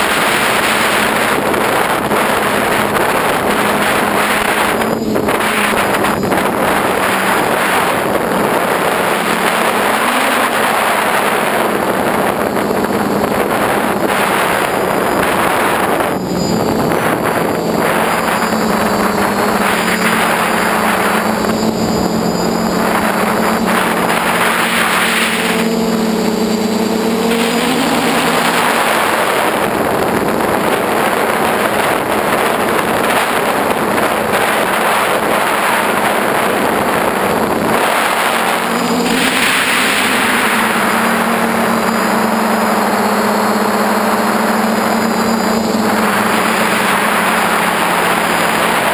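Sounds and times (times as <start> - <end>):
model aircraft motors humming: 0.0 - 48.9
wind rushing on microphone: 0.0 - 48.9.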